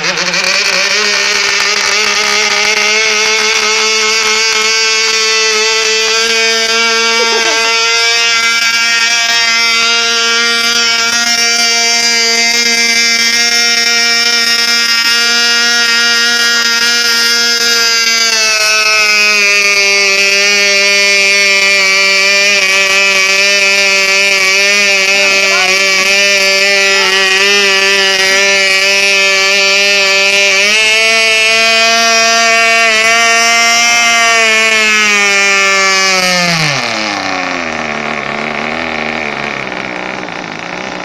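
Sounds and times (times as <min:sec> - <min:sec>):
model engine buzzing: 0:00.0 - 0:41.0.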